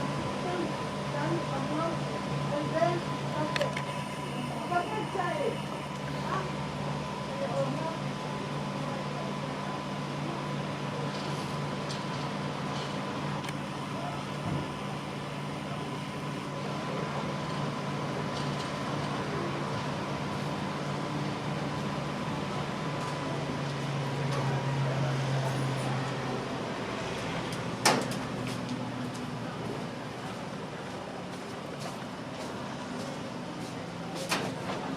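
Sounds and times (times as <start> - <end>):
laundry machines humming: 0.0 - 34.9.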